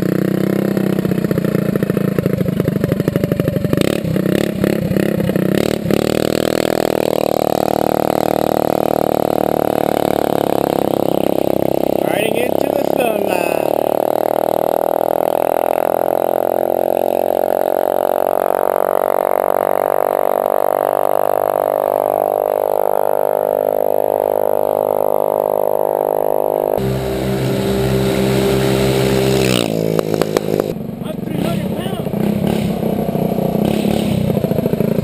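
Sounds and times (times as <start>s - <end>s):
minibike engine high-pitched drone: 0.0s - 31.1s.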